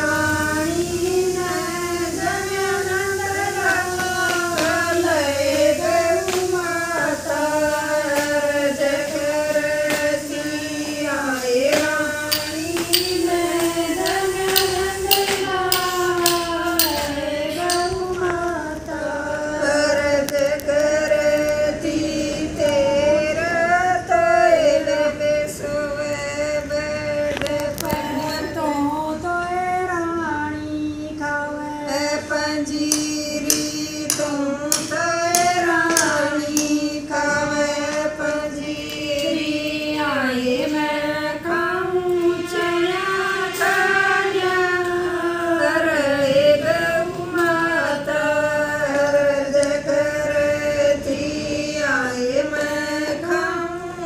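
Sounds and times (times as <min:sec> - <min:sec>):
women singing together: 0:00.0 - 0:54.0.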